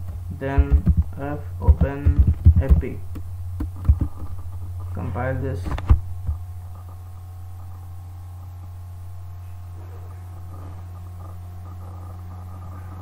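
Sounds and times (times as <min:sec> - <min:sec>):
faint high whine: 0:00.0 - 0:13.0
low hum: 0:00.0 - 0:13.0.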